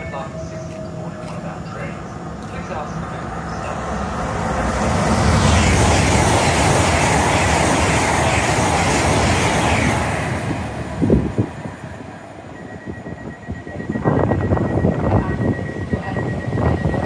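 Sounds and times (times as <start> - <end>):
train rushing past: 0.0 - 17.0.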